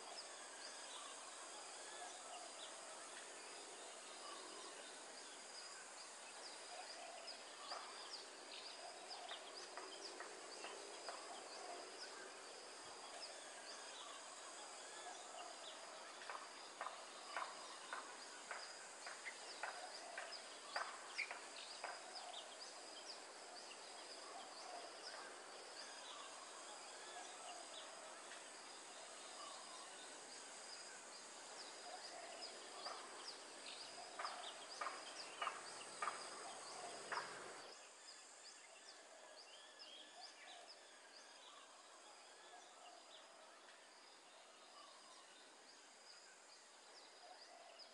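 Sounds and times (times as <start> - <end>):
high insect drone: 0.0 - 47.9.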